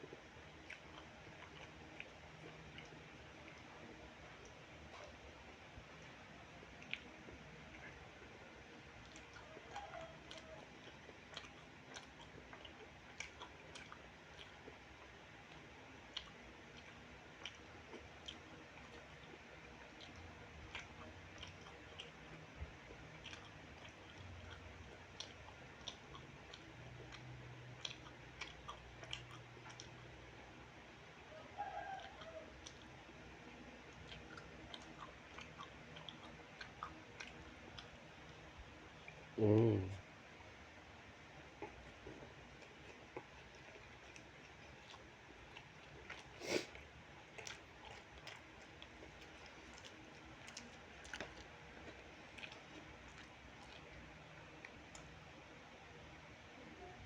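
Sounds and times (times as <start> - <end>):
person chewing: 0.0 - 30.8, 31.6 - 39.8, 41.2 - 55.2.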